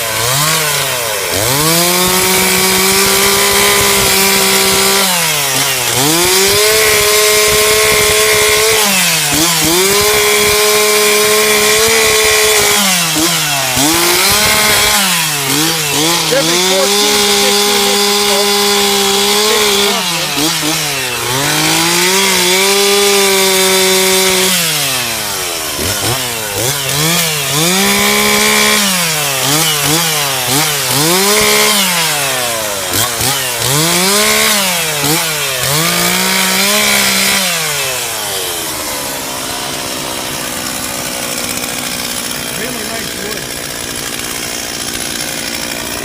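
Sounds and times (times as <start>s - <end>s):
chainsaw cutting log: 0.0s - 46.0s.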